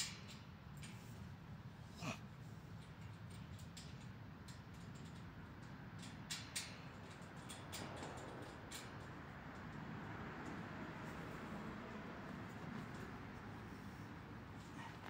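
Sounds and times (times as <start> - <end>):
light clicks on metal frame: 0.0 - 1.2, 2.7 - 15.0.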